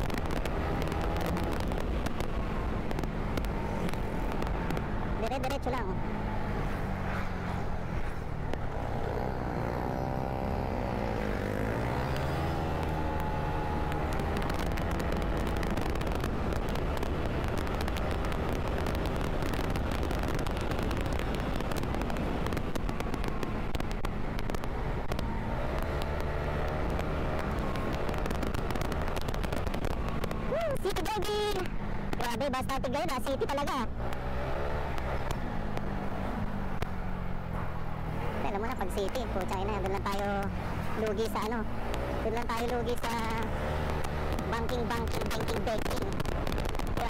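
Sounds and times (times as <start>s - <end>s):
wind noise: 0.0s - 47.0s.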